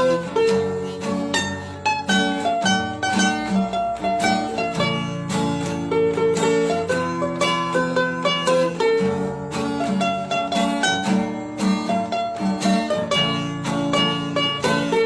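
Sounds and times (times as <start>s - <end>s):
bouncy plucked string music: 0.0s - 15.0s.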